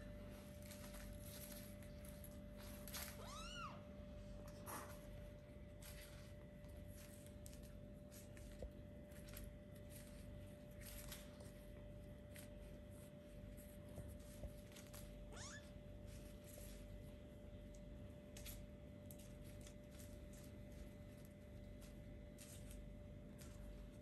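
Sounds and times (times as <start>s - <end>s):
kittens scratching and rustling: 0.0s - 24.0s
steady low hum: 0.0s - 24.0s.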